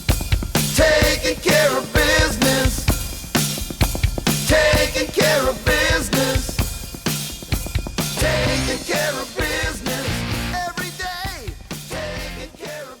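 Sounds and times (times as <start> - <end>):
rock song with singer and band: 0.0 - 7.3, 7.9 - 13.0.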